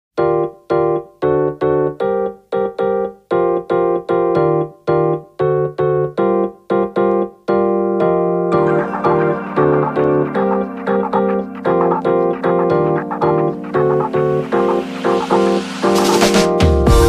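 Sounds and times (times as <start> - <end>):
keyboard playing bouncy chords: 0.2 - 17.0.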